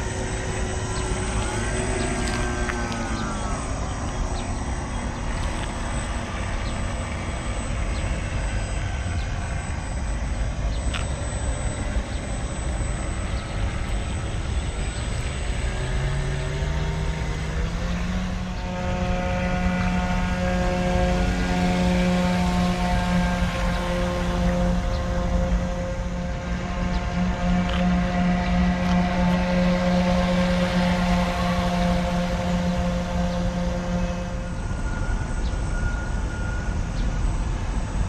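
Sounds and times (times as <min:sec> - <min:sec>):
model boat motors: 0:00.0 - 0:38.0
rising humming tone: 0:00.0 - 0:38.0
steady rushing background: 0:00.0 - 0:38.0.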